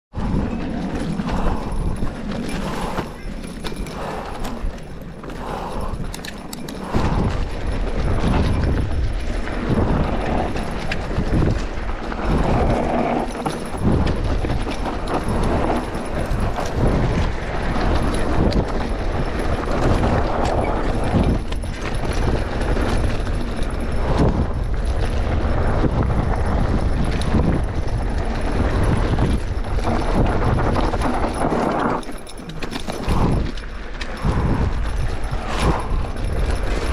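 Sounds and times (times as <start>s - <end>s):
bike rattling: 0.1s - 36.9s
wind rumble on microphone: 0.1s - 36.9s.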